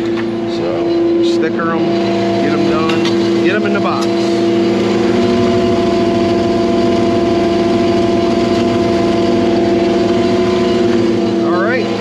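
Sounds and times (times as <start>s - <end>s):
engine-driven pump droning: 0.0s - 12.0s.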